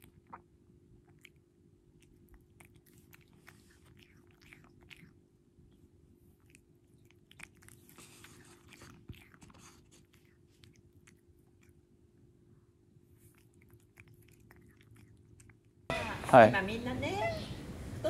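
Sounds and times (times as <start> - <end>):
cat chewing a treat: 0.0 - 11.9, 13.0 - 15.8
low steady hum: 0.0 - 18.0.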